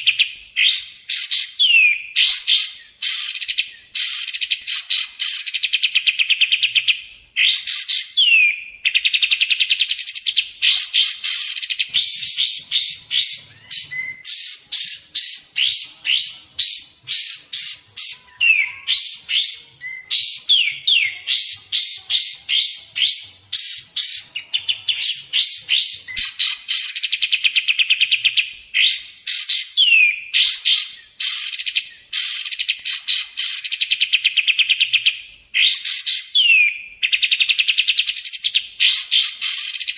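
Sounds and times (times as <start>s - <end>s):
bird song with rattling trills: 0.0s - 39.9s.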